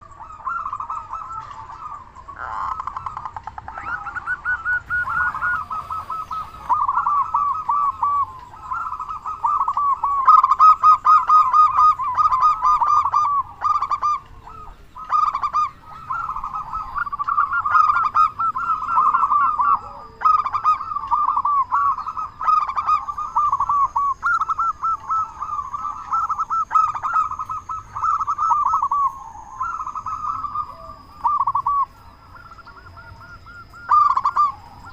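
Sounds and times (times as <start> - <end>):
dove cooing: 0.0 - 34.9.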